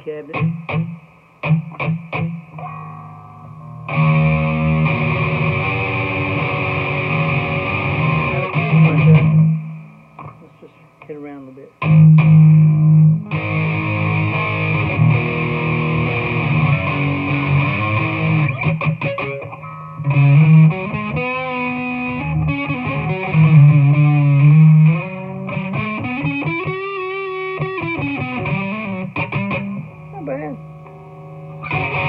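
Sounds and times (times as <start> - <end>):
electric guitar notes and chords: 0.0 - 10.5, 11.8 - 32.0.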